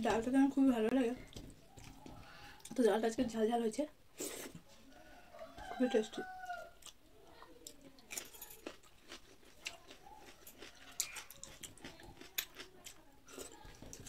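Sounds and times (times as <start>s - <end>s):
chewing: 1.2s - 2.8s, 4.4s - 14.0s.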